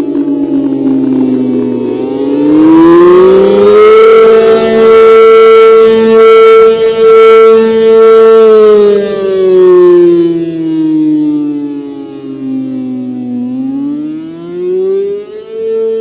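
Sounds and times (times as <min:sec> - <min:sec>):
rotating civil defense siren wail: 0:00.0 - 0:16.0.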